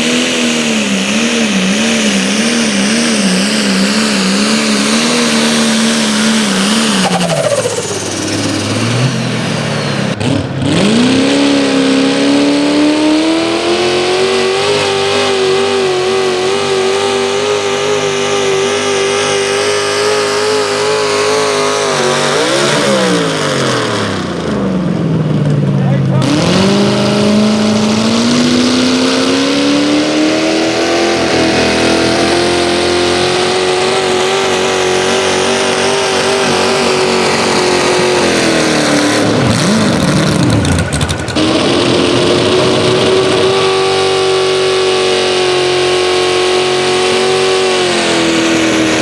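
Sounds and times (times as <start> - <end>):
pulling vehicle engine at high revs: 0.0 - 49.0.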